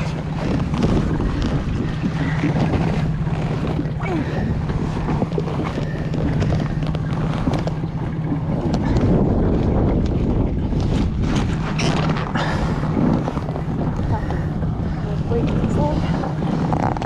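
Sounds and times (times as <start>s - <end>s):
boat engine droning: 0.0s - 17.0s
wind buffeting microphone: 0.0s - 17.0s.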